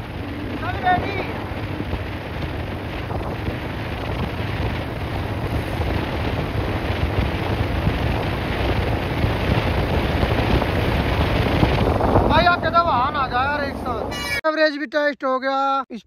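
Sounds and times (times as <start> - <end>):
motorcycle engine running: 0.0 - 14.1
wind buffeting microphone: 0.0 - 14.4.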